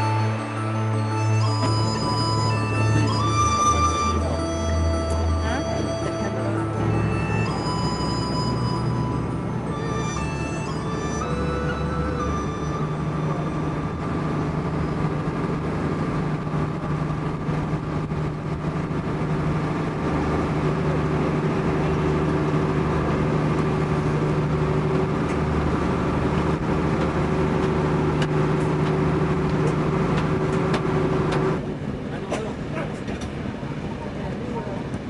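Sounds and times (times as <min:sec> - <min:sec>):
boat engine humming: 0:00.0 - 0:35.0.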